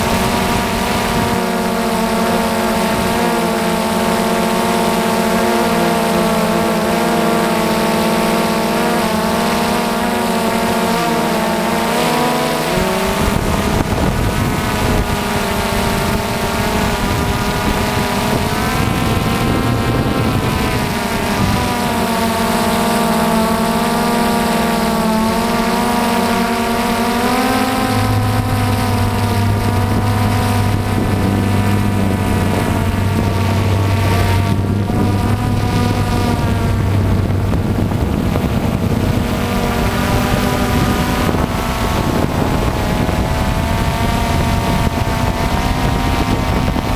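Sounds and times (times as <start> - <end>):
drone propellers whining: 0.0 - 46.9
rushing wind noise: 0.0 - 46.9.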